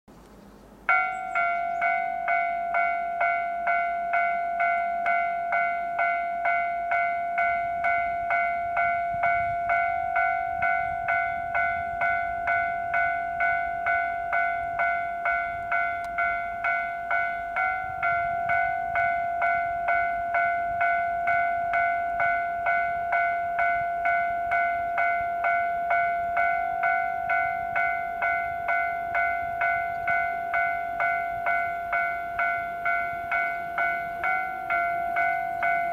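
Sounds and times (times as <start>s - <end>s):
railway warning bell ringing: 0.8s - 35.9s.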